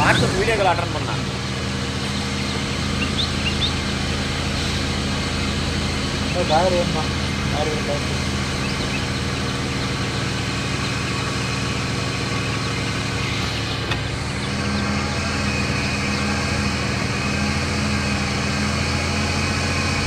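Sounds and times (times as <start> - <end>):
car engine hum from inside: 0.0 - 20.0.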